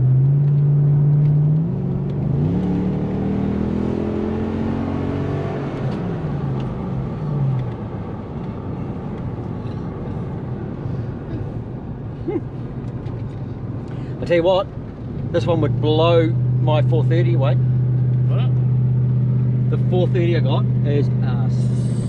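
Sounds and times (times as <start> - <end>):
car engine accelerating: 0.0 - 22.0
road noise: 0.0 - 22.0.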